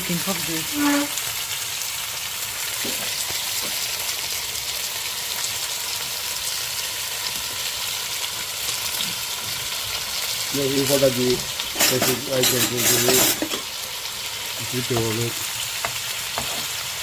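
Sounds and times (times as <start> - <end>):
sausages sizzling in oil: 0.0 - 17.0.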